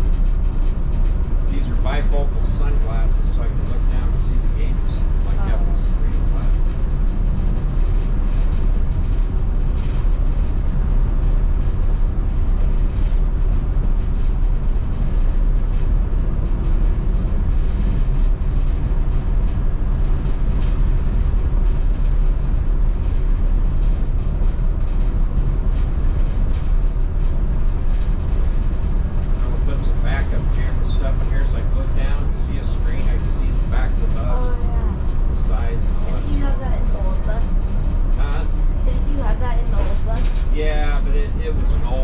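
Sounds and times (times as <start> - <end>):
diesel engine droning: 0.0 - 42.0
faint rattles and clicks: 0.0 - 42.0
road and tyre noise: 0.0 - 42.0.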